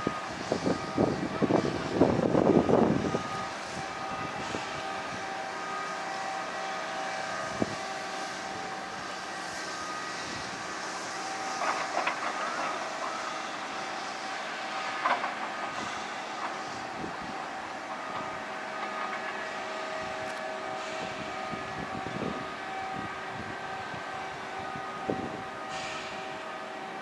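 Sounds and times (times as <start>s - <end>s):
heavy machinery running: 0.0s - 27.0s.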